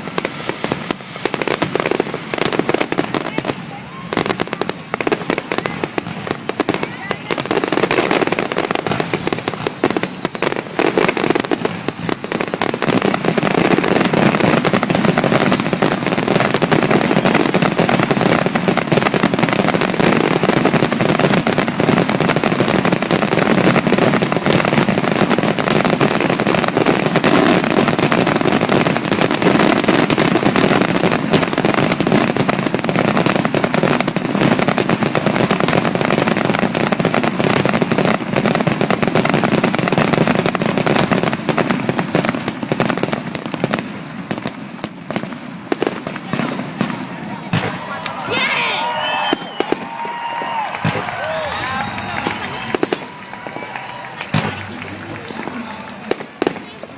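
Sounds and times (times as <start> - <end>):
fireworks bursting: 0.0 - 56.9.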